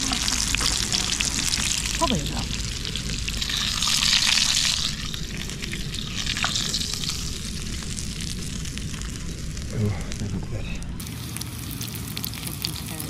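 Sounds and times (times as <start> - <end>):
fish sizzling in frying: 0.0 - 13.0.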